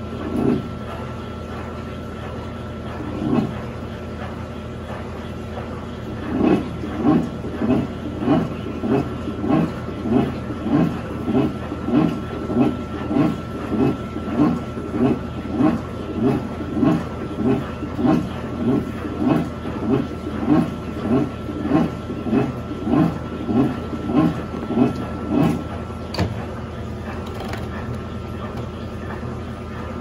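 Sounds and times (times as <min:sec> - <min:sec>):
washing machine agitating: 0:00.0 - 0:30.0.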